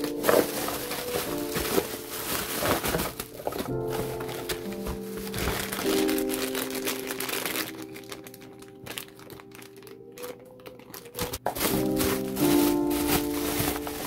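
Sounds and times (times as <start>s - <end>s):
background music with held notes: 0.0s - 14.0s
plastic bags crinkling: 0.0s - 14.0s.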